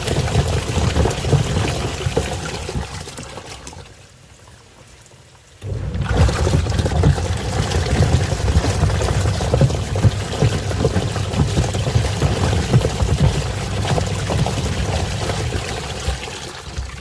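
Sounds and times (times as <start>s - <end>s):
washing machine running: 0.0s - 3.0s, 5.6s - 17.0s.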